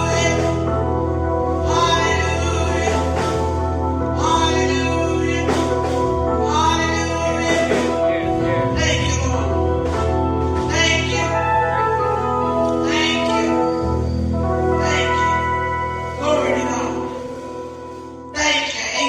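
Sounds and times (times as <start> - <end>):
gospel music with singing: 0.0 - 19.0.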